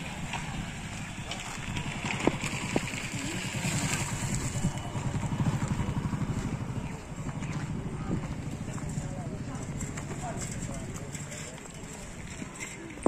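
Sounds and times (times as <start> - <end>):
engine running: 0.0 - 13.0
faint voices: 0.0 - 13.0.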